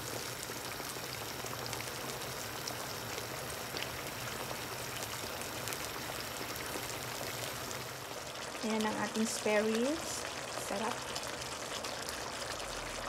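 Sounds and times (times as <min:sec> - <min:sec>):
sauce bubbling and sizzling: 0:00.0 - 0:13.0.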